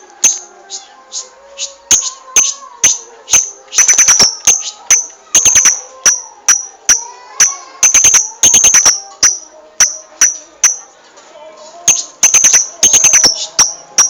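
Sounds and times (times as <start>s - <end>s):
bird chirping: 0.2s - 7.0s, 7.8s - 10.9s, 11.9s - 14.0s.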